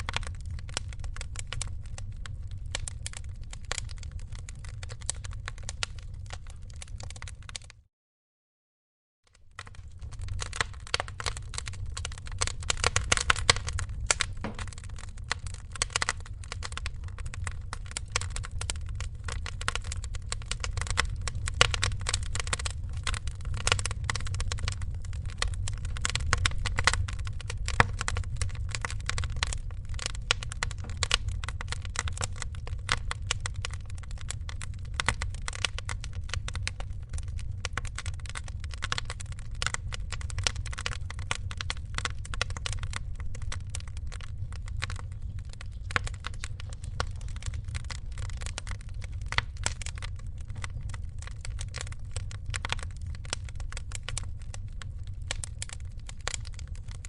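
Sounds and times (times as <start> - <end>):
wood fire crackling: 0.0 - 7.8, 9.3 - 57.0.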